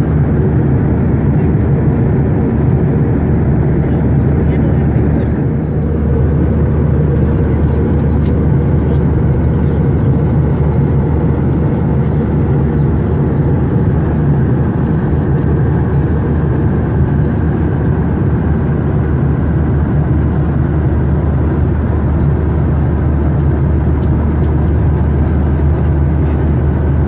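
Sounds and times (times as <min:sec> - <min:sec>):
jet engine roar: 0:00.0 - 0:27.0
low hum: 0:00.0 - 0:27.0.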